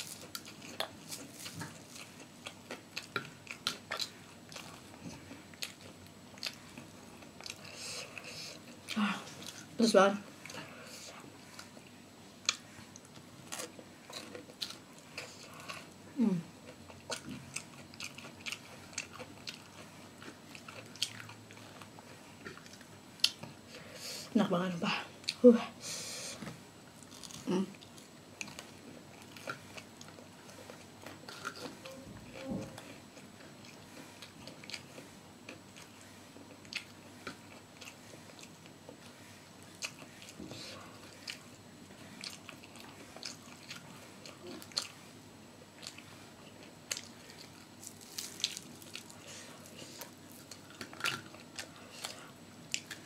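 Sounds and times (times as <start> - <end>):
person chewing crispy food: 0.0 - 9.8, 10.4 - 16.0, 16.6 - 23.7, 26.9 - 53.0.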